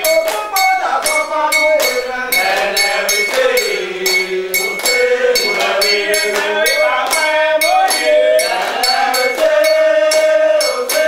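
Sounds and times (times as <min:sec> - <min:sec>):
man chanting: 0:00.0 - 0:09.2
metal bell struck rhythmically: 0:00.0 - 0:11.0.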